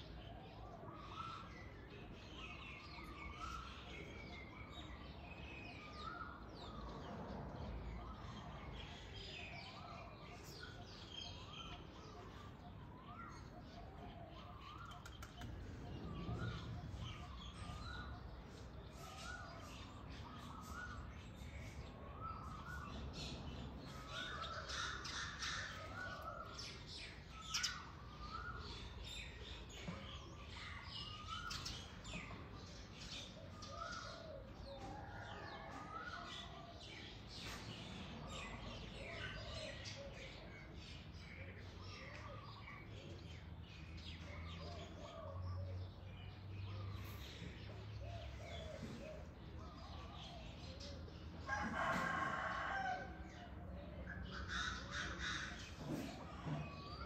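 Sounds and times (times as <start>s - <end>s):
wild birds chirping: 0.0s - 57.0s.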